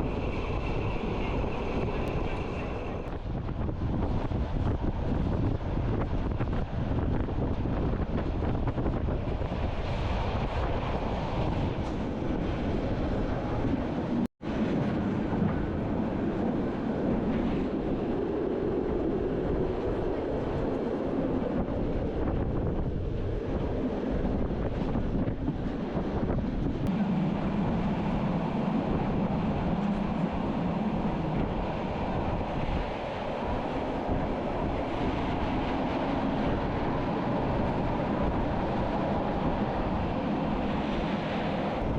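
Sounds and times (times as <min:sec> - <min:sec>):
train wheels rumbling on rails: 0:00.0 - 0:41.9
wind buffeting microphone: 0:00.0 - 0:41.9.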